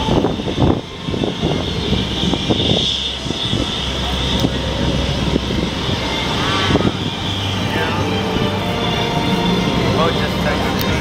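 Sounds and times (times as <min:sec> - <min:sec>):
jet engines whining and rumbling: 0:00.0 - 0:11.0.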